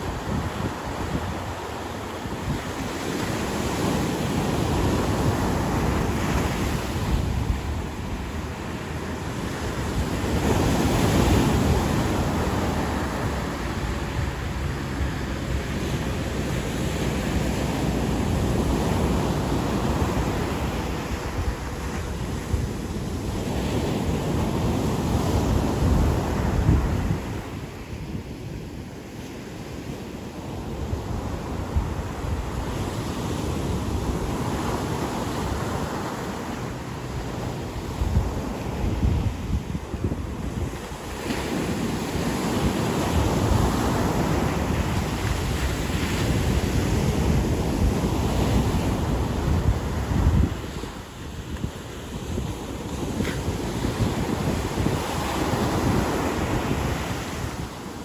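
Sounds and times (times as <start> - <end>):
ocean surf washing onto beach: 0.0 - 58.0.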